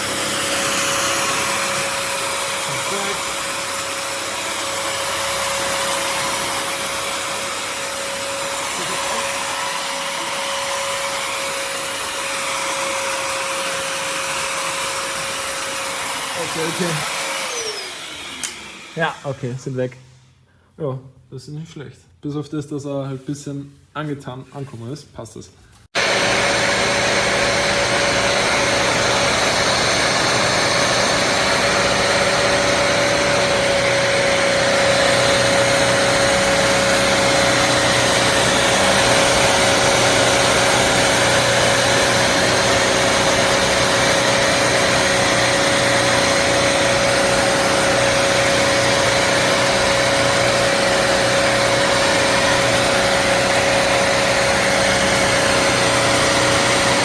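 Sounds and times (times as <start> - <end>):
vacuum cleaner running: 0.0 - 19.7, 26.0 - 57.0.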